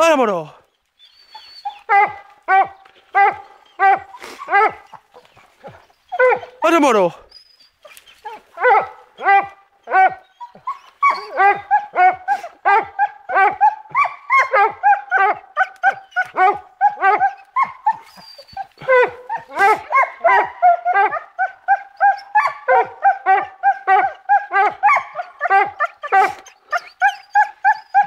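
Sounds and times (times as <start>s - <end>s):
hounds yelping: 1.0s - 28.0s.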